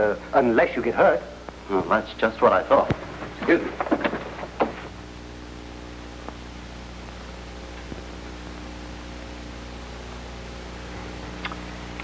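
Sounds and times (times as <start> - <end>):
television hiss and hum: 0.0 - 12.0.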